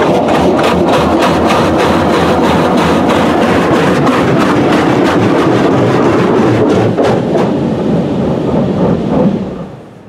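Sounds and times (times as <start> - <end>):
water jets blasting on car: 0.0 - 10.0.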